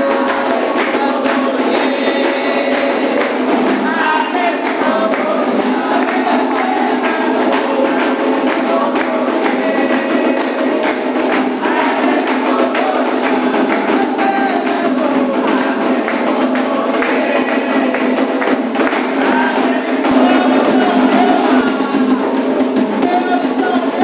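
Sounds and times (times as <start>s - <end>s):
hand percussion: 0.0s - 24.0s
voices singing a chant: 0.0s - 24.0s.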